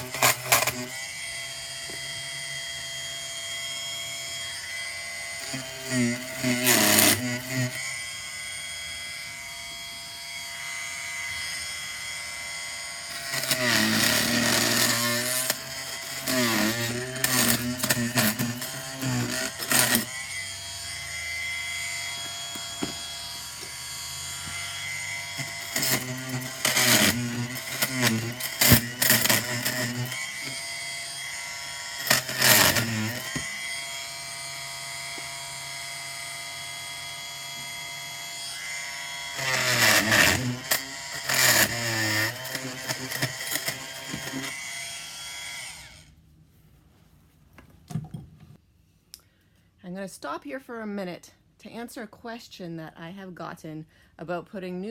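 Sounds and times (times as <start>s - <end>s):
oscillating multi-tool buzzing: 0.0s - 46.2s.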